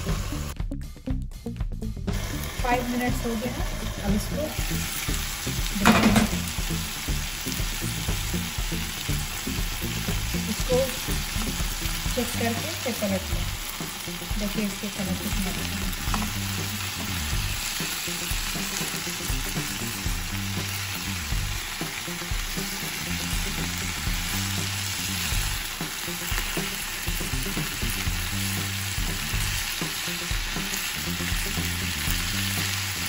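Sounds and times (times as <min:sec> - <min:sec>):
chicken sizzling in oil: 0:00.0 - 0:00.6, 0:02.1 - 0:33.0.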